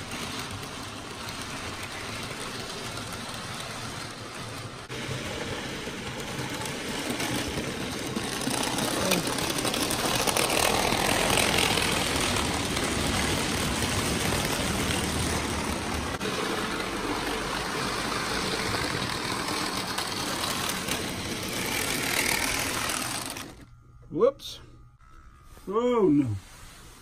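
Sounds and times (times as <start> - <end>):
model train running on track: 0.0 - 23.7.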